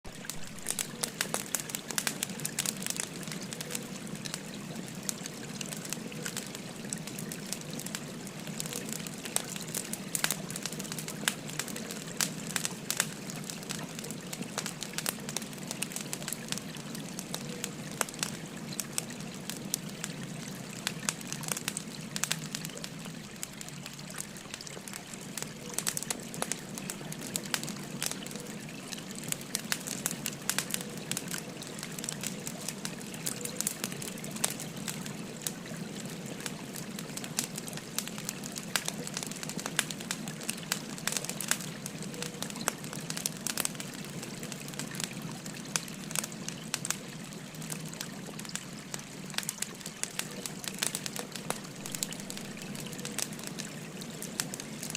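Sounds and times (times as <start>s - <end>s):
wood fire crackling: 0.1s - 54.9s.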